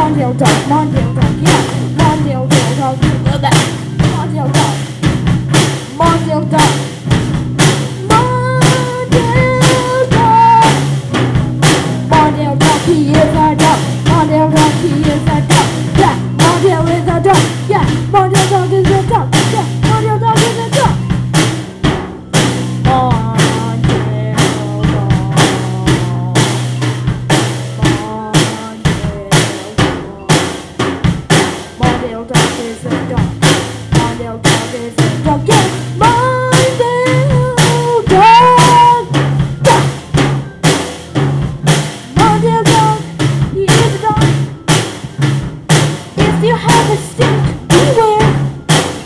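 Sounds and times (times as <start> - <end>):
drum kit beat: 0.0 - 49.0
instrumental rock band playing: 0.0 - 49.0.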